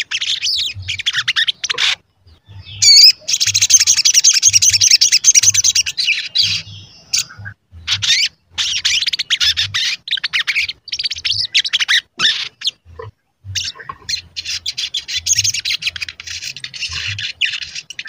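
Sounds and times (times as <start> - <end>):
sunbird singing: 0.0 - 18.0.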